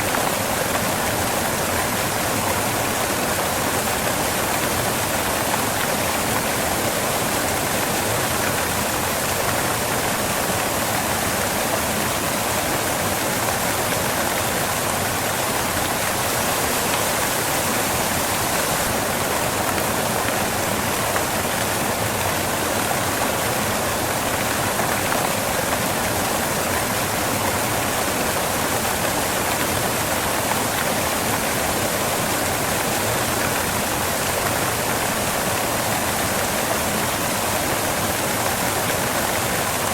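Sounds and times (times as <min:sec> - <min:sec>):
waterfall crashing onto rocks: 0:00.0 - 0:39.9.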